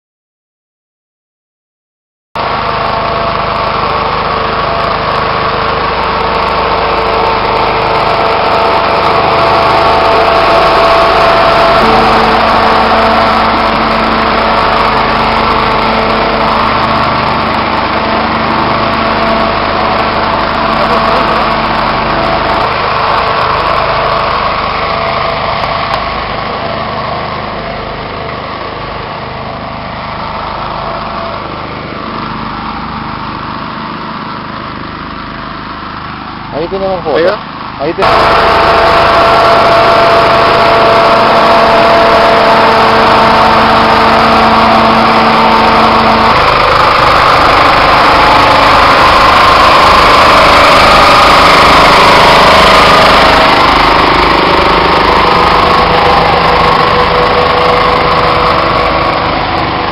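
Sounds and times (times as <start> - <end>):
sprayer fan air blast: 2.4 - 59.9
tractor engine running: 2.4 - 59.9.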